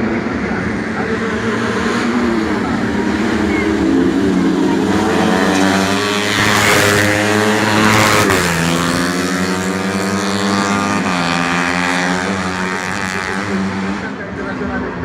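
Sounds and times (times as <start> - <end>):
motorcycle engines revving high: 0.0 - 15.0.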